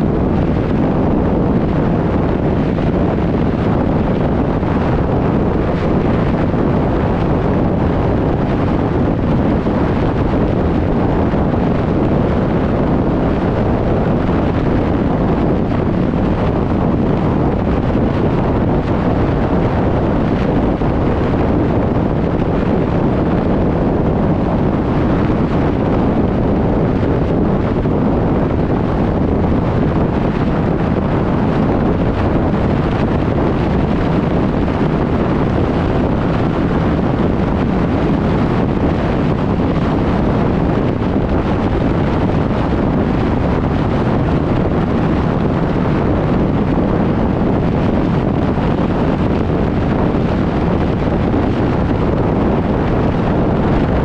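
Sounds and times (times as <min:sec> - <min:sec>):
truck tyre and road noise: 0:00.0 - 0:54.0
wind buffeting camera: 0:00.0 - 0:54.0.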